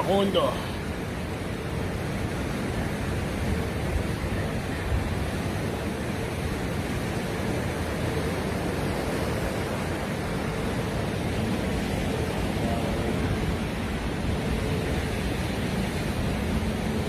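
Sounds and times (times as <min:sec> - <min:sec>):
sea at the shoreline: 0:00.0 - 0:17.0
wind: 0:00.0 - 0:17.0.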